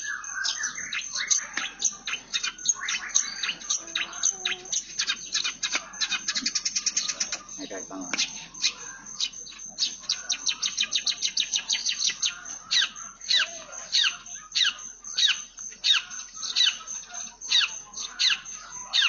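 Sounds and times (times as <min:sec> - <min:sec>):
shrike singing chirps: 0:00.0 - 0:19.0.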